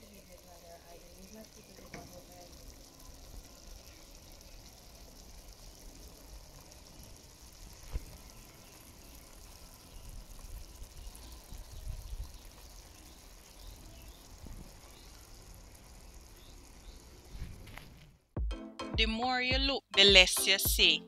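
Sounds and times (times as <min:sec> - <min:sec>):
pot simmering: 0:00.0 - 0:17.6.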